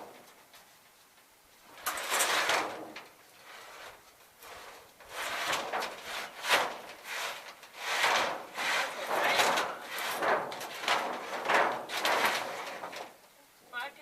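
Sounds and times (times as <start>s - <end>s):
scraping and sliding: 1.7s - 13.2s.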